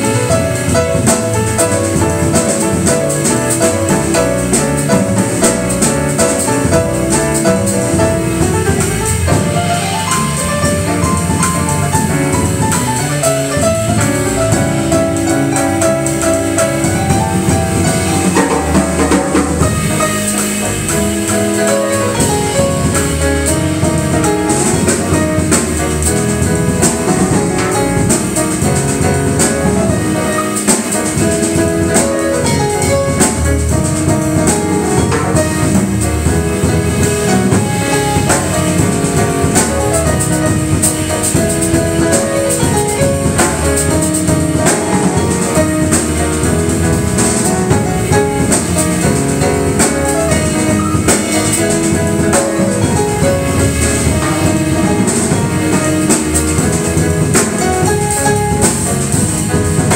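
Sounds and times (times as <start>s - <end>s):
electric bass line: 0.0s - 59.9s
jazz piano: 0.0s - 59.9s.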